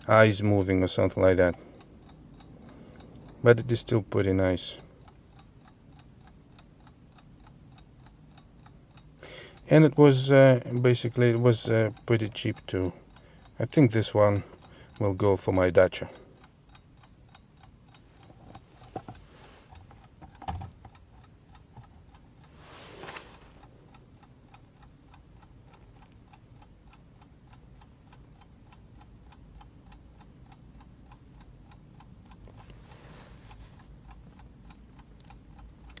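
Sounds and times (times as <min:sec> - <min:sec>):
alarm clock ticking: 0:00.0 - 0:18.9, 0:19.7 - 0:22.6, 0:23.4 - 0:32.5, 0:33.5 - 0:36.0.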